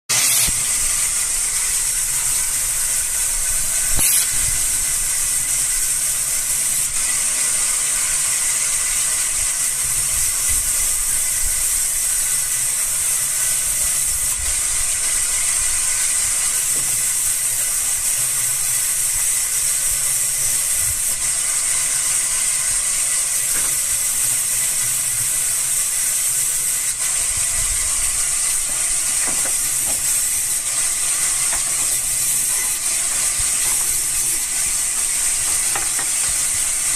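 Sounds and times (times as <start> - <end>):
sawmill machine cutting wood: 0.1 - 36.9.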